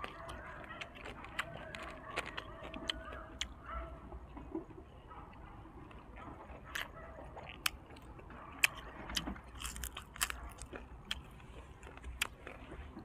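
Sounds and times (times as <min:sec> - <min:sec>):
chewing and crunching: 0:00.0 - 0:13.0.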